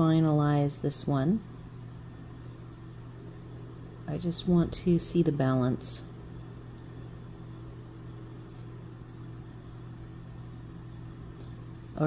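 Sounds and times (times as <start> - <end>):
low room tone hum: 0.0 - 12.0.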